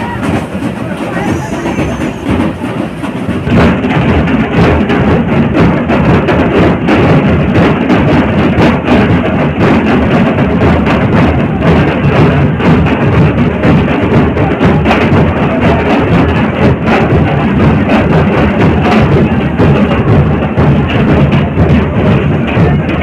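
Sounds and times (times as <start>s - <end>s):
drums beaten with sticks: 0.0s - 23.0s
large crowd din: 0.0s - 23.0s.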